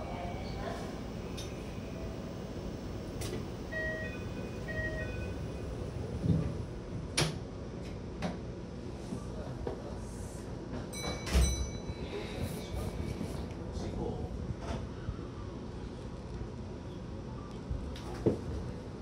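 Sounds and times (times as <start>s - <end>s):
train low hum: 0.0s - 17.4s.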